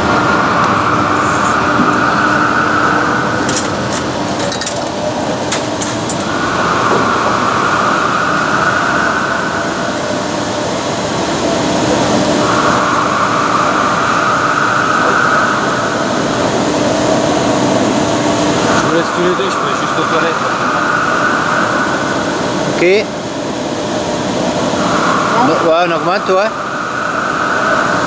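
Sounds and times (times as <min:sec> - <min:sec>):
high machine whine: 0:00.0 - 0:28.0
lathe drive humming: 0:00.0 - 0:28.0.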